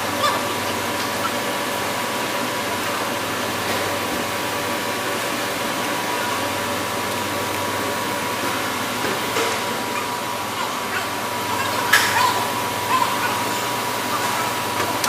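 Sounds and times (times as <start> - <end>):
machine hiss and hum: 0.0 - 15.0.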